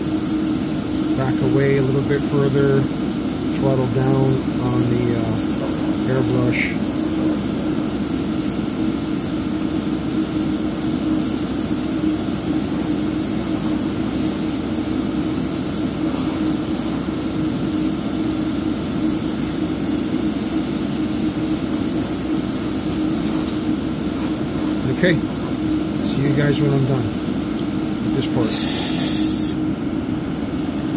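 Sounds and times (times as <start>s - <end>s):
airbrush motor drone with hiss: 0.0s - 29.6s.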